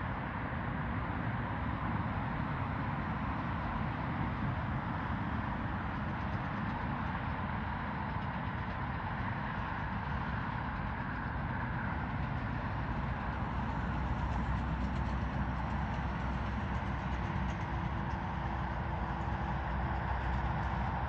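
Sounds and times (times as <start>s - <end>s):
jet engines rumbling: 1.6s - 21.0s.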